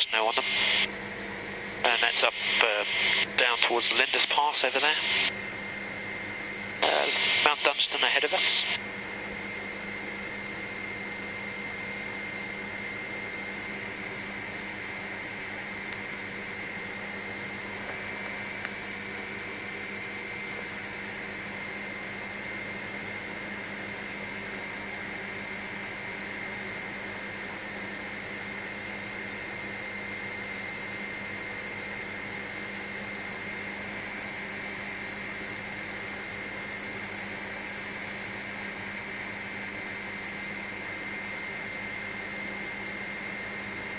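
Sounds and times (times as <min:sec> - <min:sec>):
helicopter cabin hum and whine: 0:00.0 - 0:43.9.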